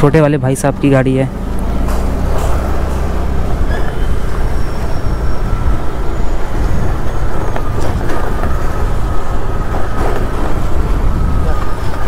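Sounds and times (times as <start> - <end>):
road traffic engines rumbling: 0.0 - 12.0.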